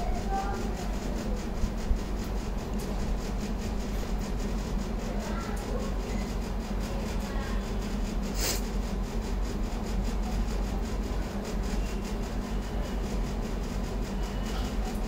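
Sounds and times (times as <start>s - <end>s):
background machinery hum: 0.0s - 15.0s.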